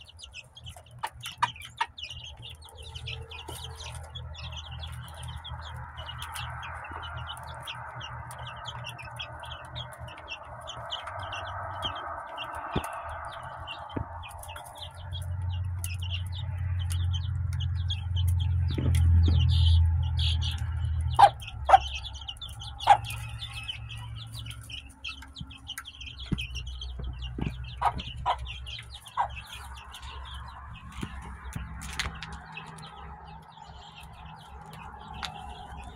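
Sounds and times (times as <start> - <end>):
chicks peeping: 0.0 - 35.9
low rumble: 0.0 - 35.9
chicken clucks: 0.4 - 19.1, 20.5 - 33.3.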